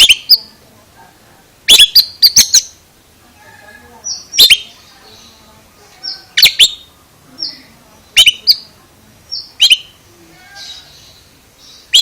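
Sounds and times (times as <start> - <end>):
magpie-robin call: 0.0 - 0.6, 1.6 - 12.0.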